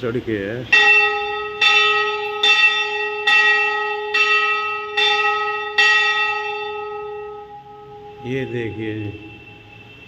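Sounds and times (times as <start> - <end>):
temple bell ringing: 0.7 - 10.0.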